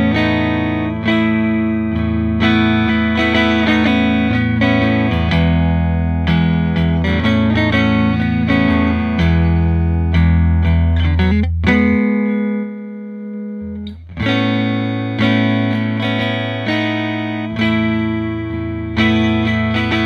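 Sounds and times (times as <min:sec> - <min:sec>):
electric guitar riff through amp: 0:00.0 - 0:20.0.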